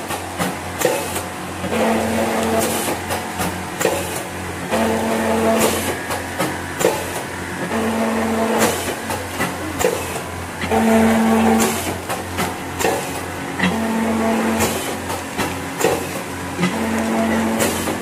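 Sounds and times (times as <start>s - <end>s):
machine low hum: 0.0s - 18.0s.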